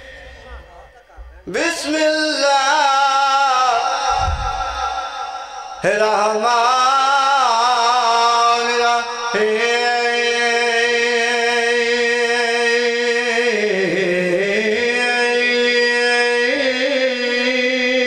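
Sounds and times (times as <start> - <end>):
man chanting melodic recitation: 0.0 - 18.0.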